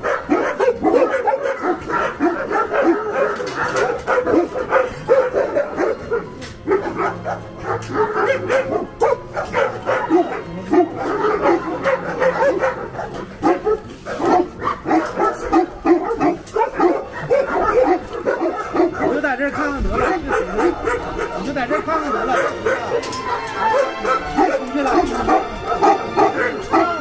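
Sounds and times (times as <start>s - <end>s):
dogs barking and whining: 0.0s - 27.0s.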